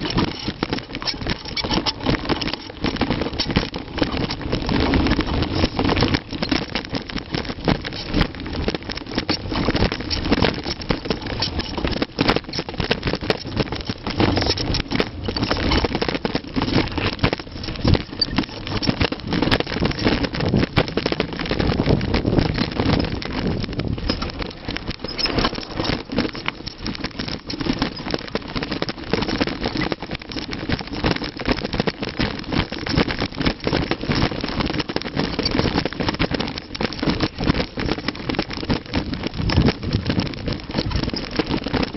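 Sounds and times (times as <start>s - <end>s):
bike and chain rattling: 0.0s - 41.9s.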